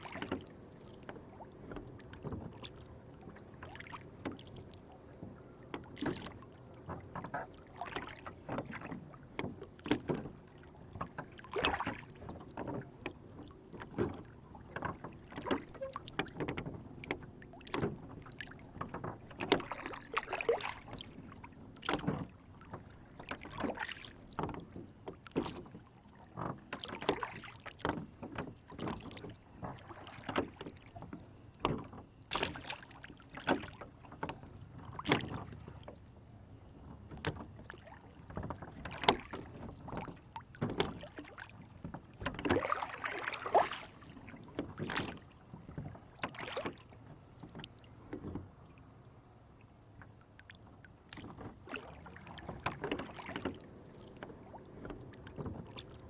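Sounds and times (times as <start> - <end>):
water lapping against boat hull: 0.0 - 56.0.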